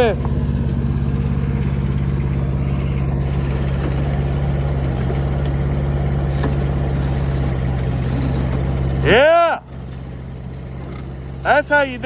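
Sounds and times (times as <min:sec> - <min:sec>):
mini excavator engine running: 0:00.0 - 0:12.0.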